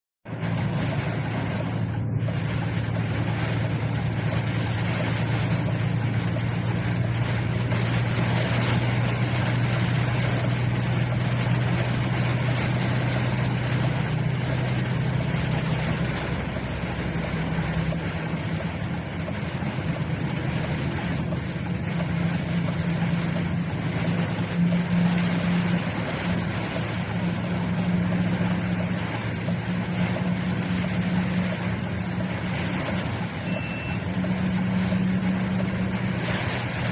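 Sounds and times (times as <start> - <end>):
low engine drone: 0.2 - 36.9
rain and wet road noise: 0.3 - 36.9.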